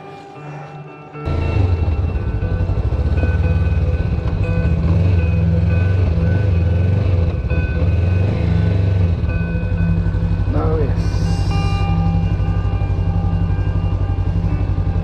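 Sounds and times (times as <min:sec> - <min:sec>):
motorcycle engine running at low revs: 0:01.3 - 0:15.0.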